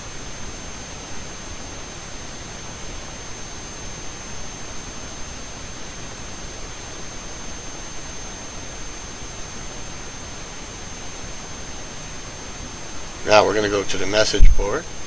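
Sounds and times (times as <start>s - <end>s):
constant high-pitched tone: 0.0s - 15.0s
microphone hiss: 0.0s - 15.0s.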